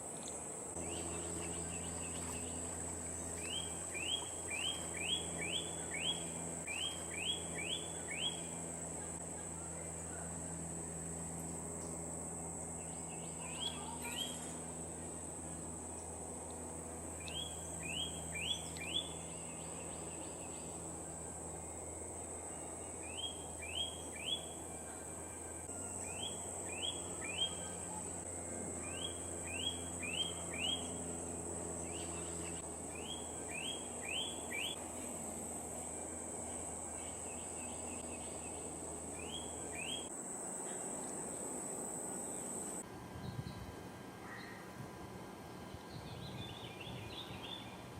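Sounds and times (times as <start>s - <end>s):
high insect-like whine: 0.0s - 43.6s
low hum: 0.0s - 47.9s.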